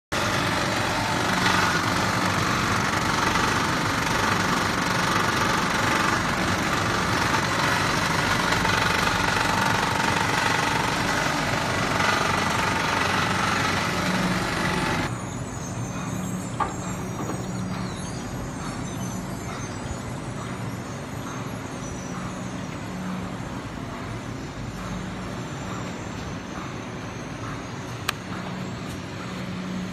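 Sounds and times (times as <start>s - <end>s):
production line machinery running: 0.1s - 29.9s
machine hum: 0.2s - 29.9s.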